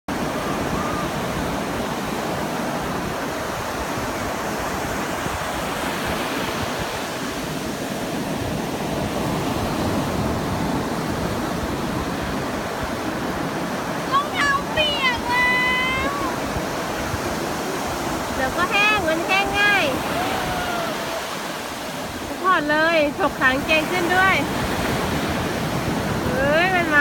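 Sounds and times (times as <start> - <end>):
sea surf breaking on beach: 0.1 - 27.0.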